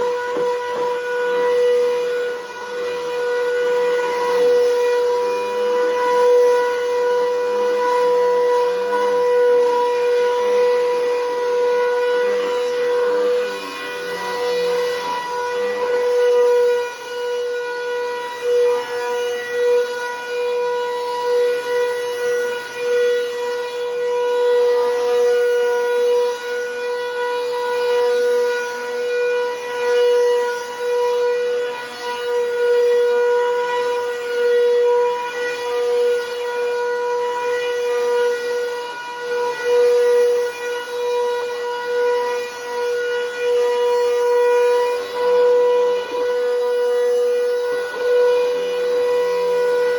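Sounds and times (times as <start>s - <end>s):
vacuum cleaner high whine: 0.0s - 49.9s.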